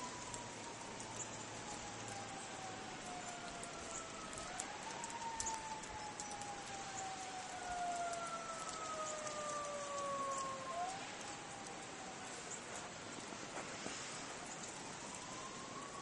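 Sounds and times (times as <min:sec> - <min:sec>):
faint siren wailing: 0:00.0 - 0:16.0.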